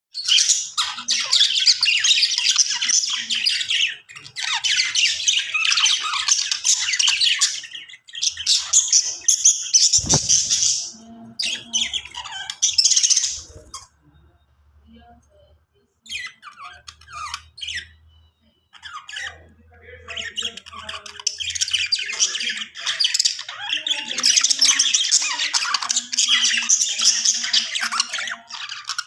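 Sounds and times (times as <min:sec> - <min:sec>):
budgies chirping and warbling: 0:00.1 - 0:29.0.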